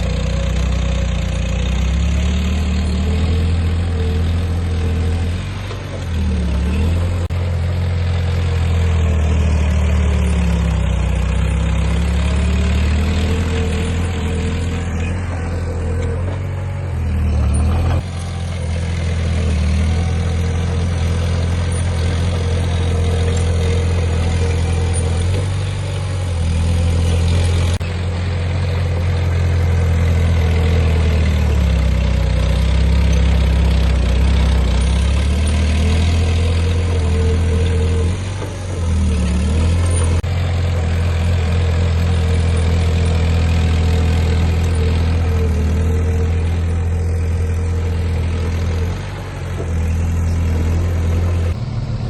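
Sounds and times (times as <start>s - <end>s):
diesel earthmoving machine engine: 0.0s - 52.0s.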